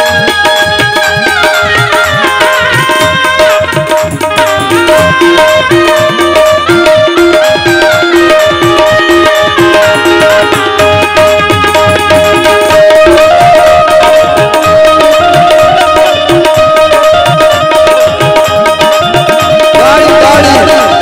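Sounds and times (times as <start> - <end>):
sustained melody of held notes: 0.0 - 21.0
tabla rhythm: 0.0 - 21.0.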